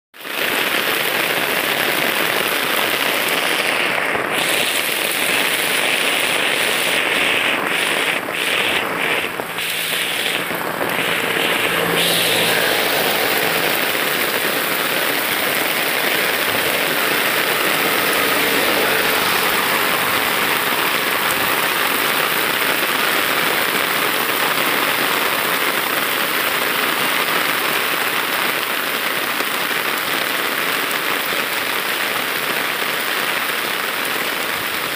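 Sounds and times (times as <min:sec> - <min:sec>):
heavy rain on wet road: 0:00.2 - 0:34.9.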